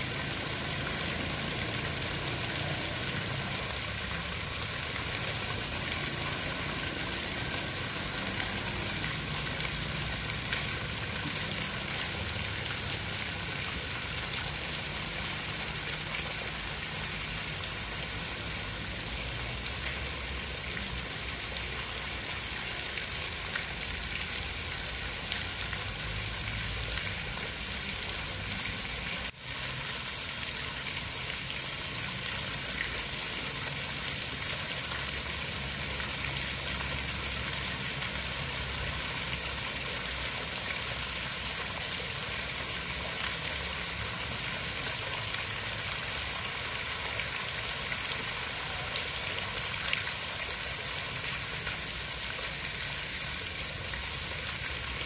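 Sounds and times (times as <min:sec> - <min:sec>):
hiss of running water: 0:00.0 - 0:55.0.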